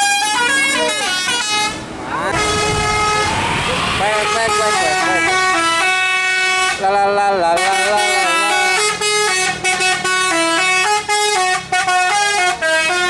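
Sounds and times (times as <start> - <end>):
multi-tone air horn melody: 0.0 - 13.0.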